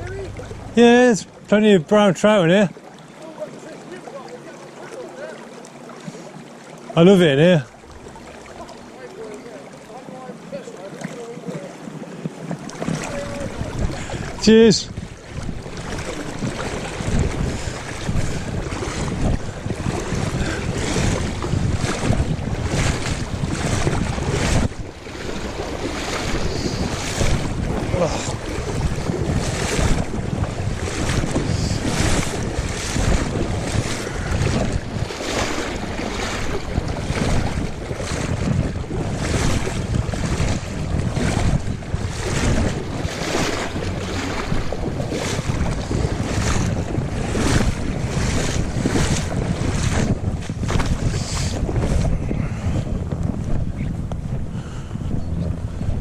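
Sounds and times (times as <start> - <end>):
wind buffeting microphone: 0.0 - 2.7, 10.1 - 56.0
river water rushing: 0.0 - 50.0.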